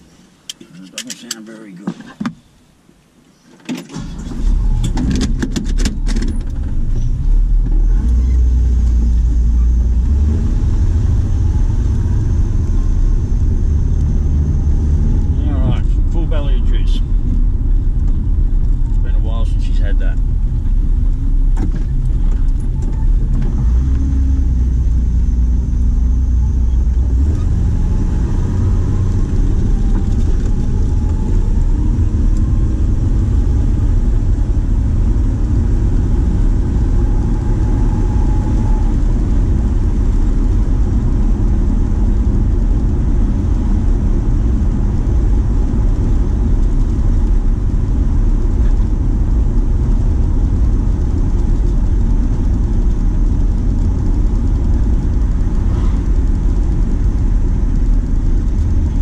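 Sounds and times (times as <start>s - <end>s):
car engine: 0.0s - 59.0s
road rumble: 0.0s - 59.0s.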